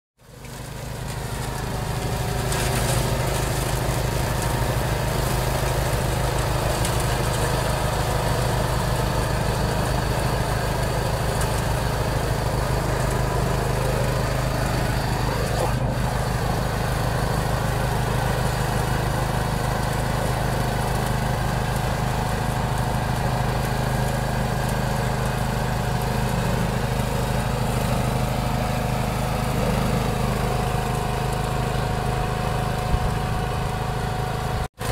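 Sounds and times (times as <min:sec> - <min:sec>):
mower cutting tall grass: 0:00.2 - 0:34.9
tractor engine running under load: 0:00.2 - 0:34.9.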